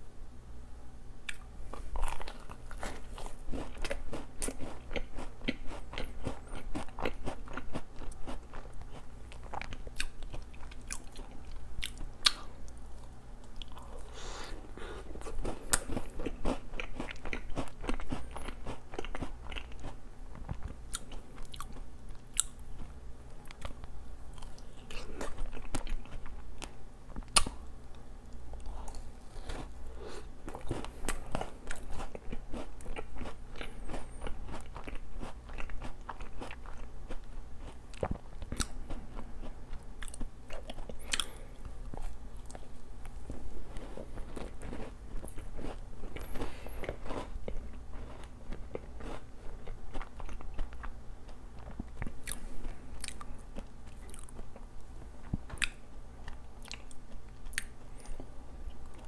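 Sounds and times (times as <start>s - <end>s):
chewing: 1.3s - 27.6s, 28.3s - 59.0s.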